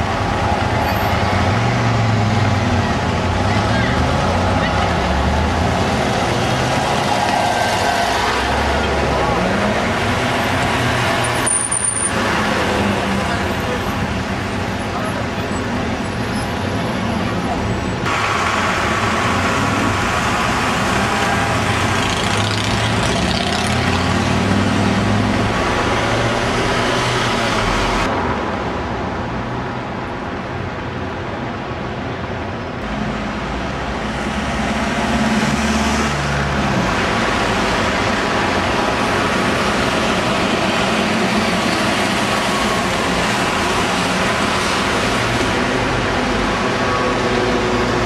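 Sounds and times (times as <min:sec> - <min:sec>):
bus diesel engines: 0:00.0 - 0:48.0
road noise: 0:00.0 - 0:48.0.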